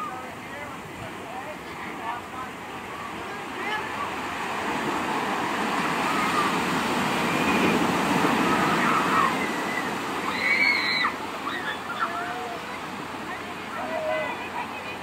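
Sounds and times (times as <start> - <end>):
faint voices of people: 0.0 - 6.7, 7.3 - 15.0
ocean surf breaking on beach: 0.0 - 15.0.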